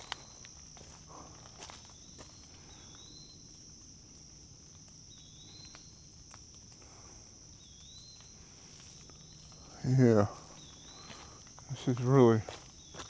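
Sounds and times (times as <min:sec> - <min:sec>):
faint footsteps on trail: 0:00.0 - 0:13.0
high insect drone: 0:00.0 - 0:13.0.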